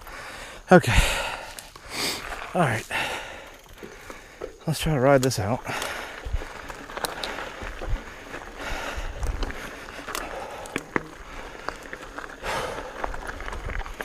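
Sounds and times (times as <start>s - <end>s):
bike clicks and rattles: 0.0s - 14.0s
bike tyres on rocky trail: 0.0s - 14.0s.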